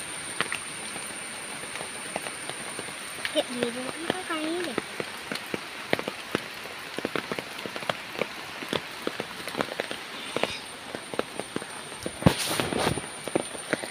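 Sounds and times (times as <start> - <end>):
rain drops tapping: 0.0 - 13.9
rain hiss: 0.0 - 13.9.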